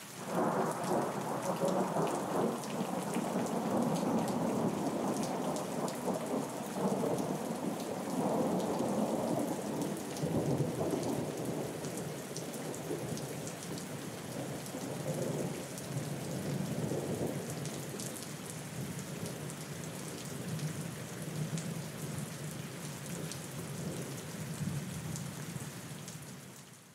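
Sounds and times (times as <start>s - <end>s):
steady rain: 0.0s - 26.9s.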